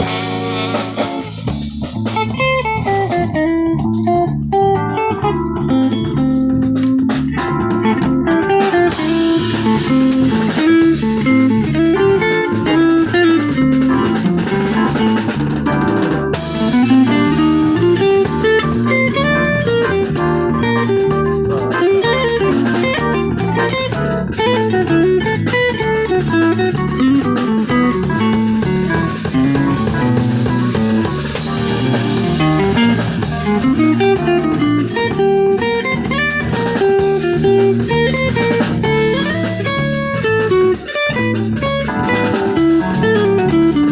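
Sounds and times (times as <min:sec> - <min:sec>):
bass guitar: 0:00.0 - 0:43.9
drum kit: 0:00.0 - 0:43.9
electric guitar line: 0:00.0 - 0:43.9.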